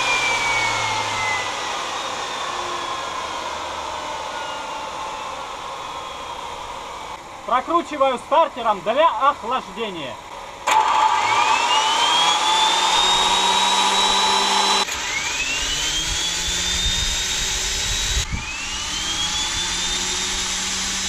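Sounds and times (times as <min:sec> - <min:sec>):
gas turbine spooling up: 0:00.0 - 0:21.0.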